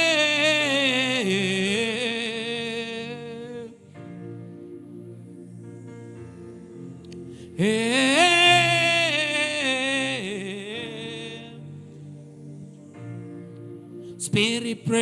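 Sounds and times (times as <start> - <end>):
sustained instrumental chords: 0.0 - 15.0.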